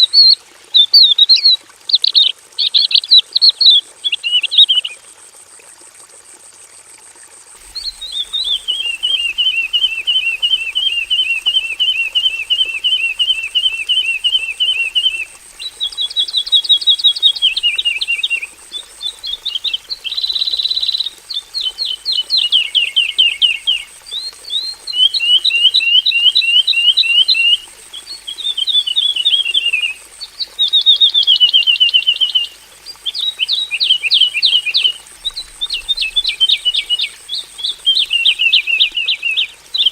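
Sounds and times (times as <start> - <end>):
bird singing trills: 7.7 - 39.9.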